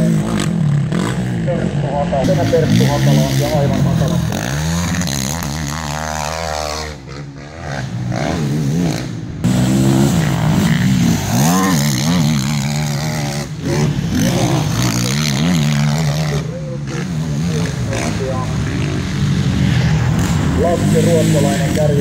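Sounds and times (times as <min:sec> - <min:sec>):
quad bike engines revving: 0:00.0 - 0:22.0.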